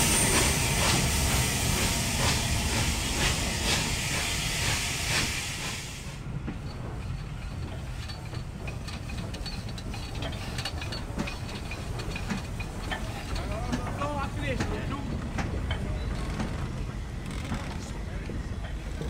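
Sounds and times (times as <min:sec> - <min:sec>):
steam locomotive hissing: 0:00.0 - 0:17.3
railway rumble: 0:00.0 - 0:19.0.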